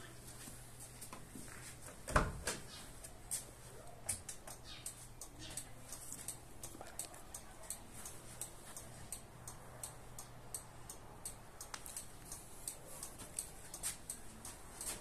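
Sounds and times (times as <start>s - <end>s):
hazard-light relay clicking: 2.5s - 15.0s.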